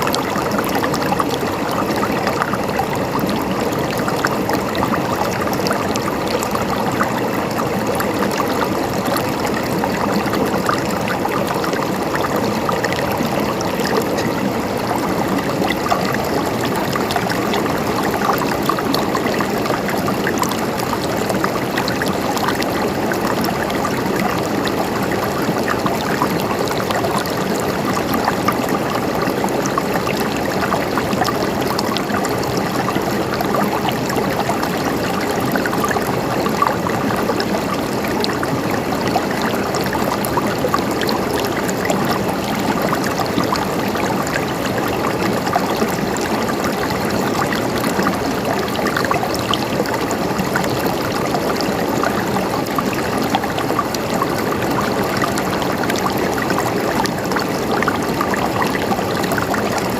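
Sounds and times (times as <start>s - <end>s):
river water over stones: 0.0s - 59.9s
water gurgling and trickling: 0.0s - 59.9s.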